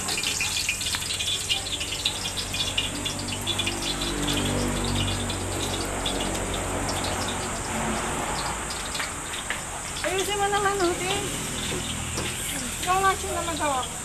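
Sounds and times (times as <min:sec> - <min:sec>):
garlic sizzling in oil: 0:00.0 - 0:14.0.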